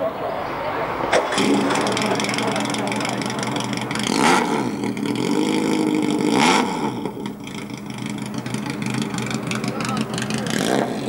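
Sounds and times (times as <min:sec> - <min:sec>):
boat engine revving: 0:00.0 - 0:11.0.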